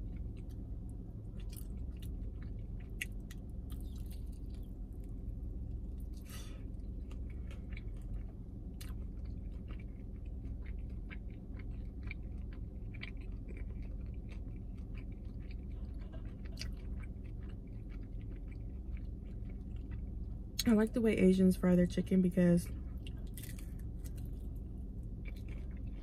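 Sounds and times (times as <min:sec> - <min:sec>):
crunchy chewing: 0:00.0 - 0:20.7, 0:22.7 - 0:26.0
steady low hum: 0:00.0 - 0:26.0.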